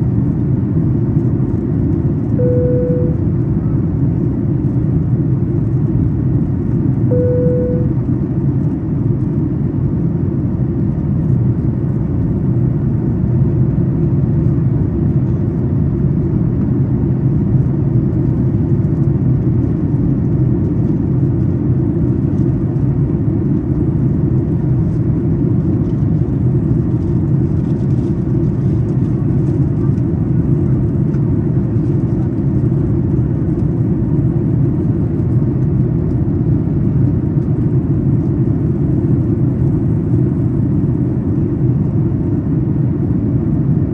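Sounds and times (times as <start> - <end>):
airplane engines rumbling in cabin: 0.0 - 43.9.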